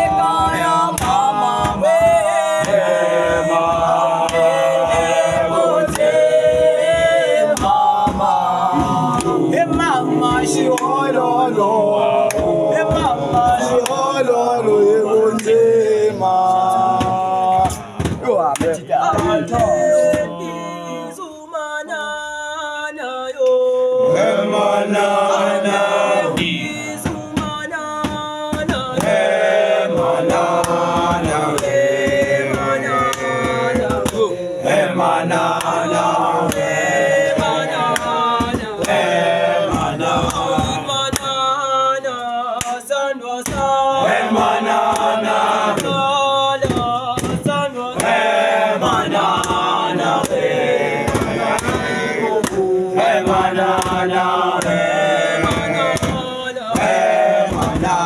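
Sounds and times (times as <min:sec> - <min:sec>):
group of men singing a chant: 0:00.0 - 0:58.0.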